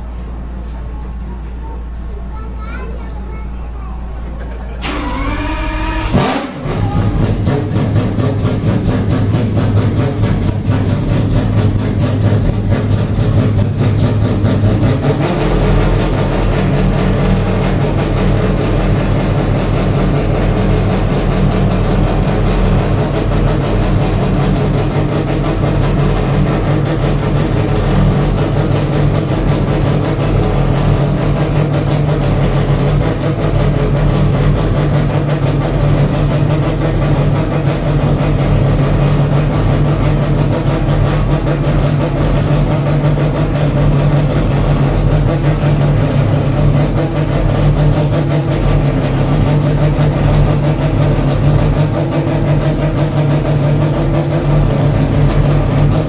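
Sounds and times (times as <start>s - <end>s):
rotary engine idling: 0.0s - 56.0s.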